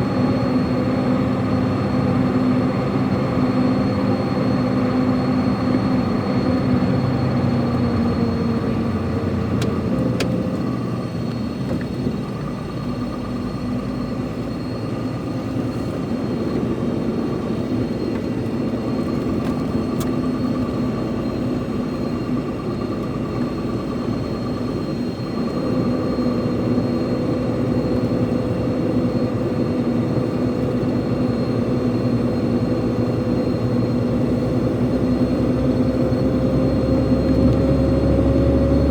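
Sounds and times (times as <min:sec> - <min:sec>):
truck engine droning: 0:00.0 - 0:38.9.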